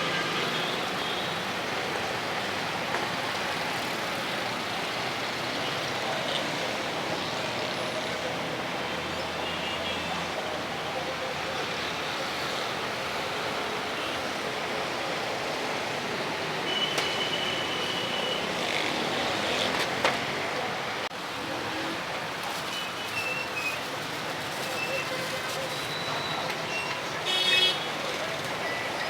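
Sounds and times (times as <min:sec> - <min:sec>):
passing traffic hum and hiss: 0:00.0 - 0:29.0.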